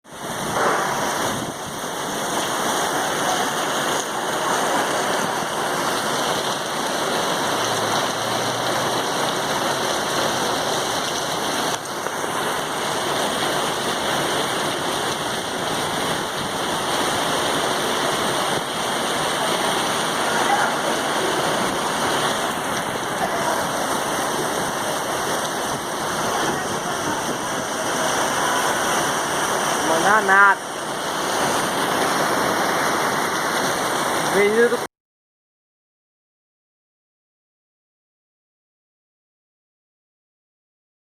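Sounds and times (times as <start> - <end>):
heavy rain and hail pouring: 0.0 - 34.9.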